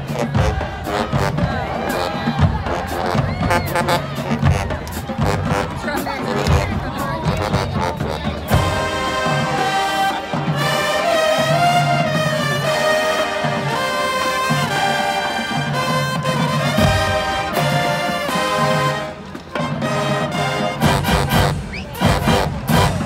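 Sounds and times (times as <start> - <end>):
marching band brass tune: 0.0 - 23.0.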